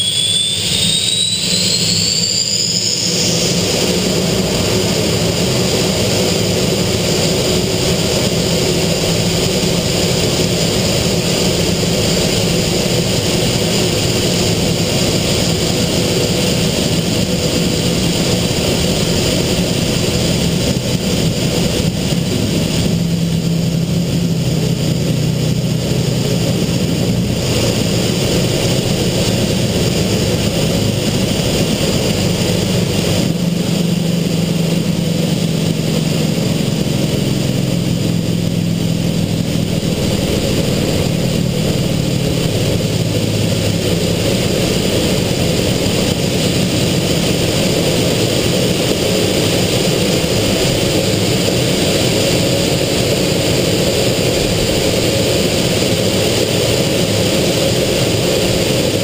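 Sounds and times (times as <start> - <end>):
jet engine roaring with whine: 0.0 - 59.0.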